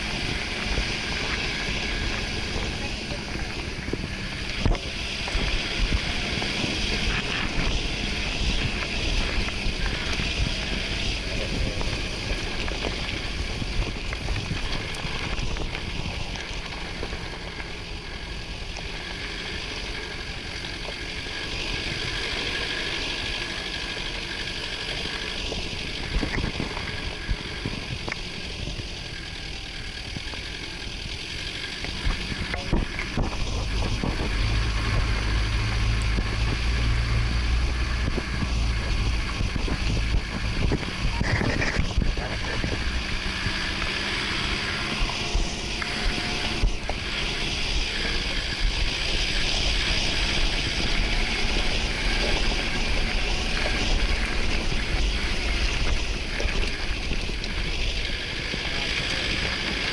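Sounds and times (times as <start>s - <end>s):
off-road vehicle engine: 0.0s - 59.9s.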